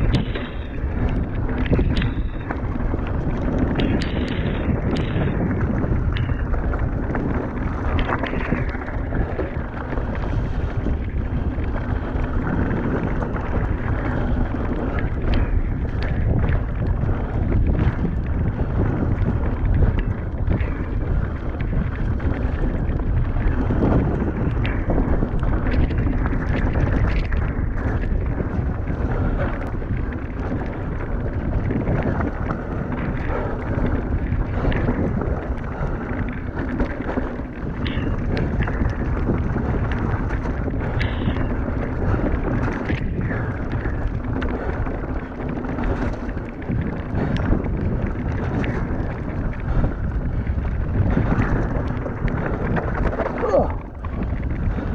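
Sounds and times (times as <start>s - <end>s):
bike rattling and knocking: 0.0s - 54.9s
tyres rolling on wet gravel: 0.0s - 54.9s
wind on microphone: 0.0s - 54.9s.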